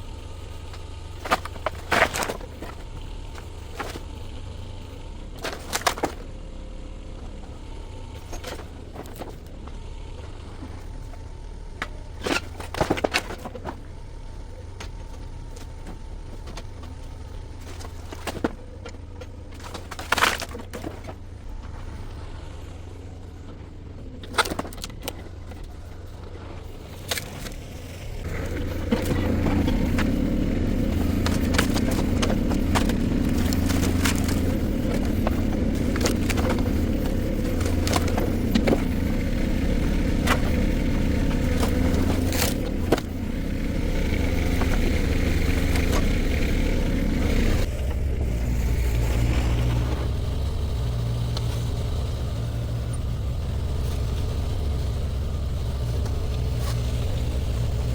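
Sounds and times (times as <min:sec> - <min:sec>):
diesel engine running: 0:00.0 - 0:57.9
wood cracking and breaking: 0:00.2 - 0:57.9.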